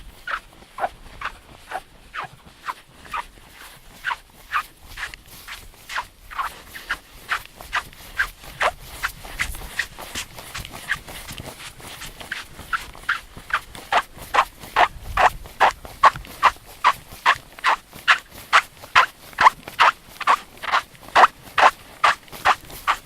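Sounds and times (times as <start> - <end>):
sand squeaking underfoot: 0.0 - 23.0.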